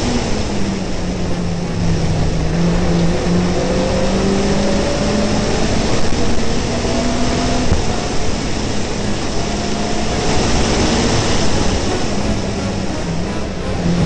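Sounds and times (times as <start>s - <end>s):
rally car engine revving: 0.0s - 14.0s
road and wind noise: 0.0s - 14.0s.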